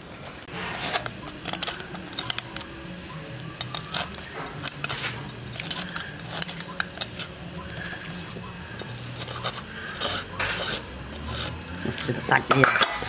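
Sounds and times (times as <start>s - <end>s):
low steady hum: 0.0s - 13.0s
utensils clicking and scraping: 0.3s - 13.0s.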